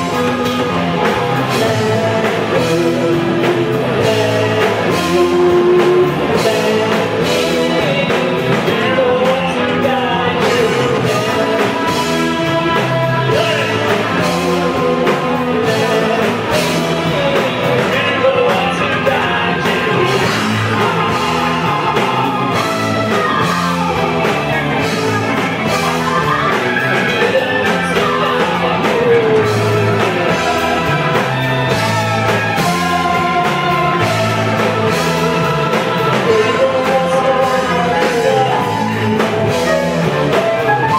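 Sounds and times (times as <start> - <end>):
bass guitar: 0.0 - 40.9
drum kit: 0.0 - 40.9
electric guitar: 0.0 - 40.9
person singing: 0.0 - 40.9.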